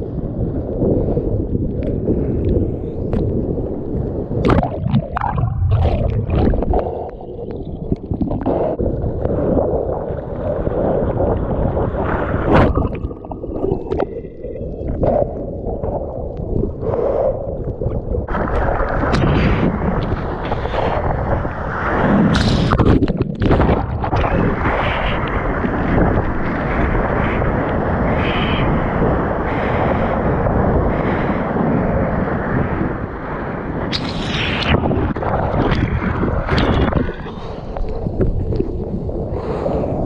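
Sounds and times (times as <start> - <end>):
wind buffeting microphone: 0.0 - 40.0
seawater rushing and splashing: 3.5 - 40.0.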